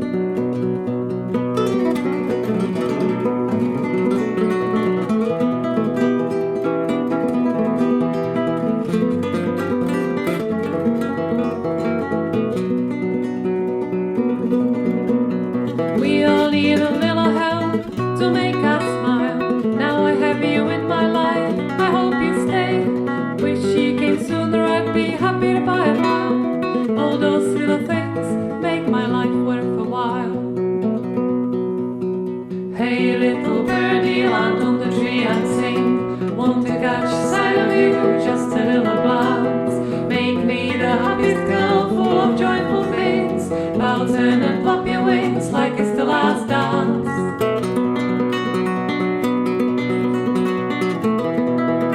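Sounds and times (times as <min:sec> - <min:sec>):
folk song on acoustic guitar: 0:00.0 - 0:51.9.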